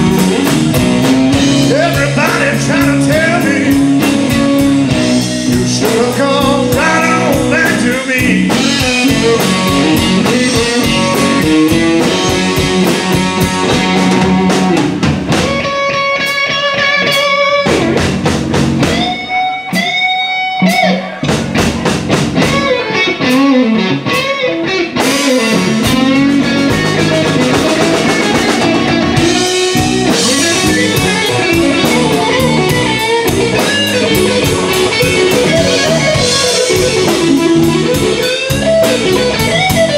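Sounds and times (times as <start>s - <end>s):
bass guitar: 0.0s - 39.9s
drums: 0.0s - 39.9s
electric guitar lead: 0.0s - 39.9s.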